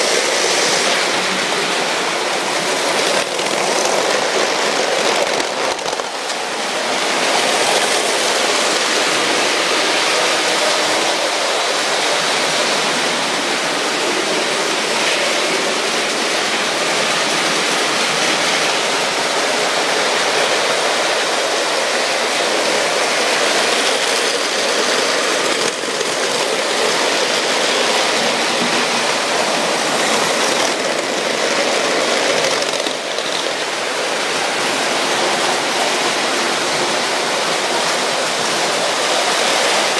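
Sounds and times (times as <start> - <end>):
toy trains rattling and whirring: 0.0 - 39.9.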